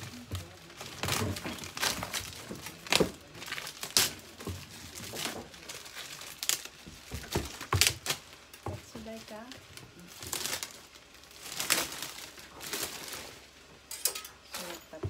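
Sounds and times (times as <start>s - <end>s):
plastic film crinkling: 0.0s - 13.9s.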